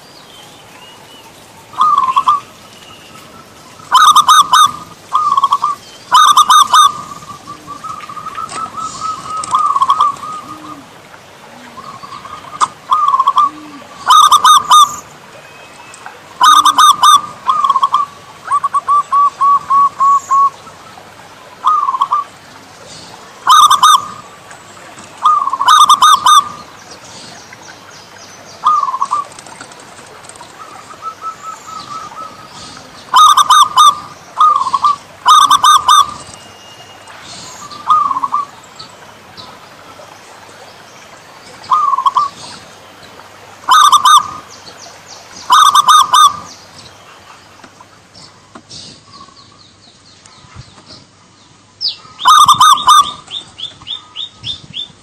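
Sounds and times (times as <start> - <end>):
doves cooing: 0.7 - 49.5, 51.9 - 54.5.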